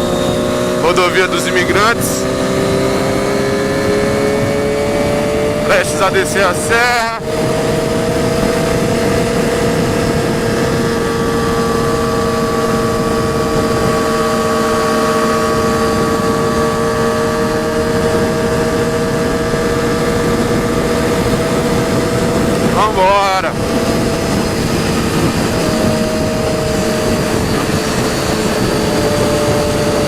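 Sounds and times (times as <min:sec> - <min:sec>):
motorcycle engine cruising: 0:00.0 - 0:30.0
wind noise: 0:00.0 - 0:30.0.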